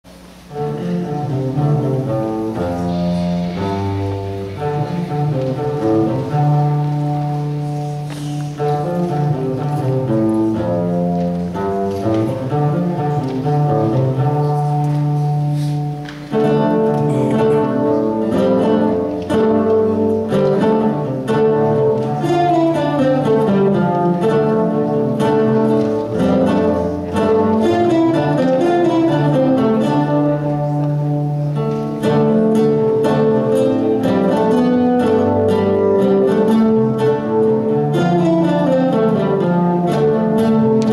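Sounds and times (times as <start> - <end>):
guitar ensemble playing: 0.0 - 40.9.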